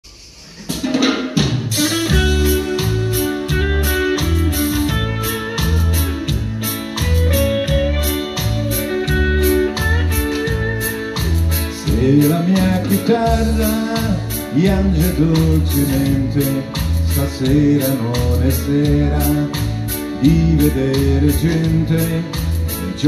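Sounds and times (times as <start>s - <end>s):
steady drum beat: 0.4s - 23.0s
pop song guitar: 0.7s - 23.0s
bass: 1.7s - 23.0s.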